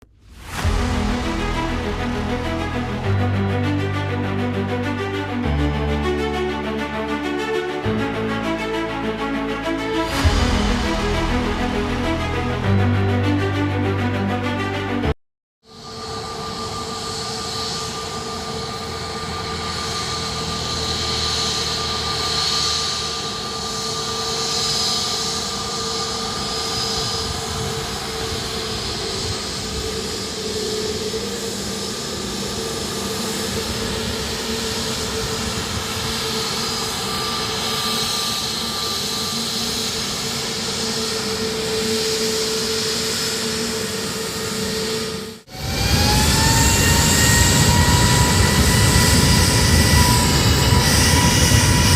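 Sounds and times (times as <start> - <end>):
jet engines whining: 0.4 - 13.7, 15.8 - 51.9.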